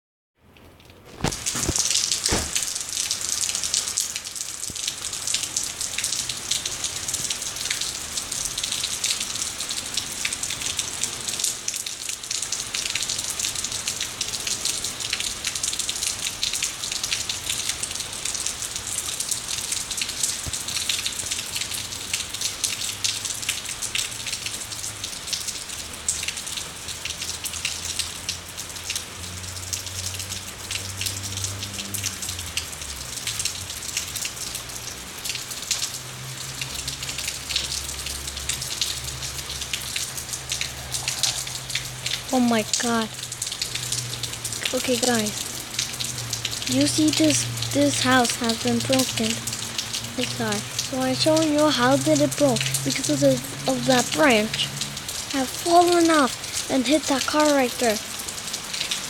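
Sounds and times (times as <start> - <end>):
heavy rain falling: 0.6 - 59.0.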